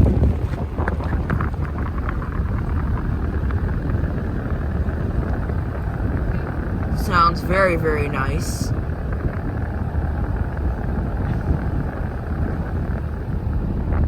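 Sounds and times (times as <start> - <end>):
fan air rushing: 0.0 - 14.0
low unit rumble: 0.0 - 14.0.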